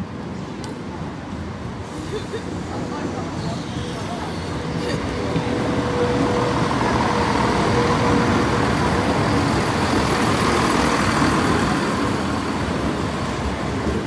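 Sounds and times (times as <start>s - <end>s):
diesel train engines running: 0.0s - 14.0s
train wheels rumbling on rails: 0.0s - 14.0s.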